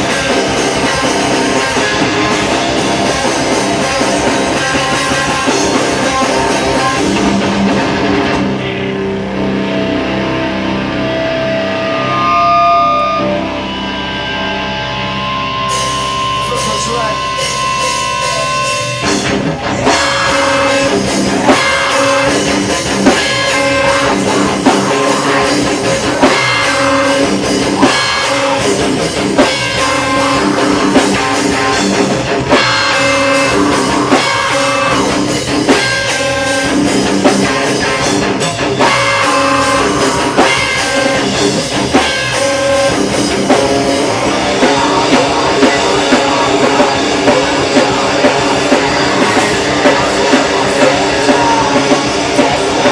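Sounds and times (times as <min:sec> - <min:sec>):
heavy rock band playing: 0:00.0 - 0:52.9
held guitar tone: 0:00.0 - 0:52.9.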